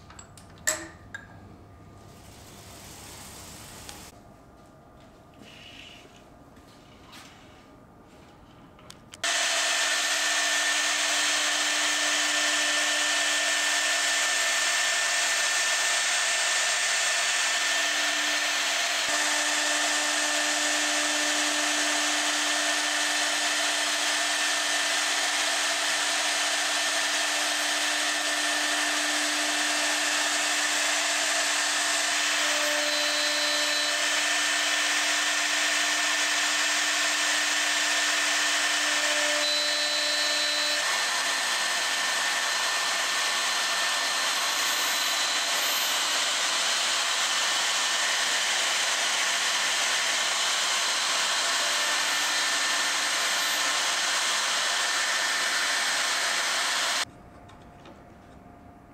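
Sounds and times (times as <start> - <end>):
router motor cutting wood: 9.2 - 57.1.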